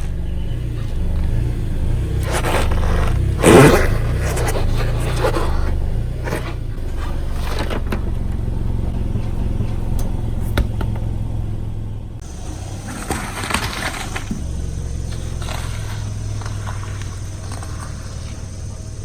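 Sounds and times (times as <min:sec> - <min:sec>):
tyre crushing objects: 0:00.0 - 0:11.0, 0:12.2 - 0:18.6
car engine running: 0:00.0 - 0:19.0.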